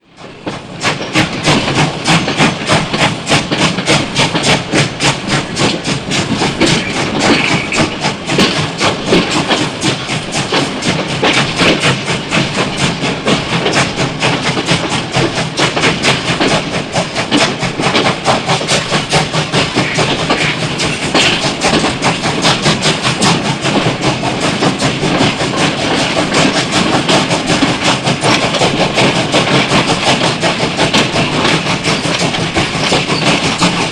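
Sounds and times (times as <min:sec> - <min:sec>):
steam locomotive chuffing: 0:00.0 - 0:33.9
steam hissing: 0:00.5 - 0:33.9.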